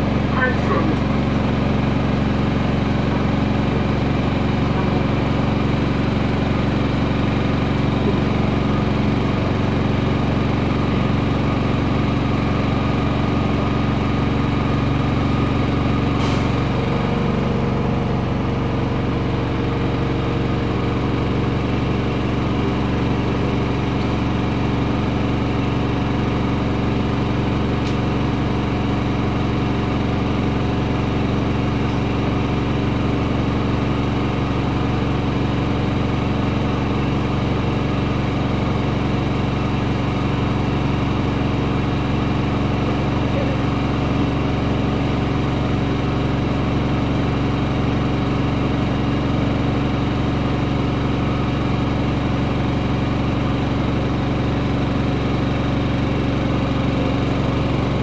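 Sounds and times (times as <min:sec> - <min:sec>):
diesel bus engine idling: 0:00.0 - 0:58.0.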